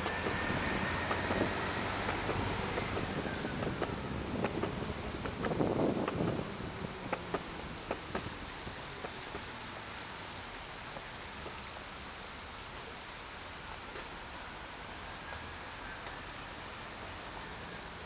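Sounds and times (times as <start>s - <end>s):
city street noise: 0.0s - 18.0s.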